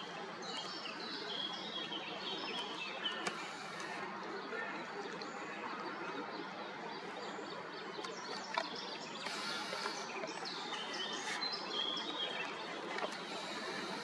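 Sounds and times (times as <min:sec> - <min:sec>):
outdoor background noise: 0:00.0 - 0:14.0
small birds singing and chirping: 0:00.0 - 0:14.0.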